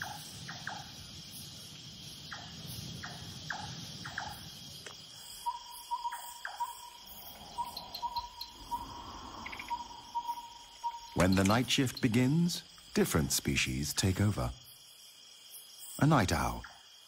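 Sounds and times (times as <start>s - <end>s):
crickets and insects trilling: 0.0s - 17.0s.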